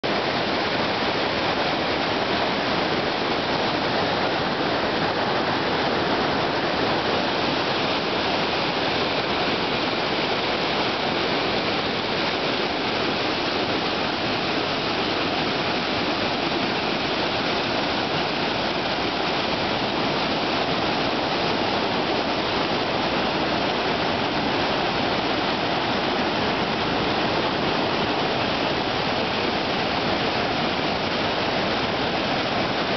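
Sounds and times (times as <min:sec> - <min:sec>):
waterfall rushing over boulders: 0:00.0 - 0:32.9.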